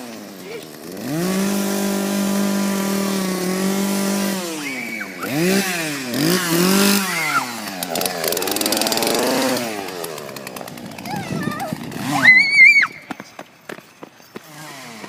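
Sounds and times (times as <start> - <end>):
toy chainsaw buzzing and revving: 0.0 - 13.1, 14.3 - 15.0.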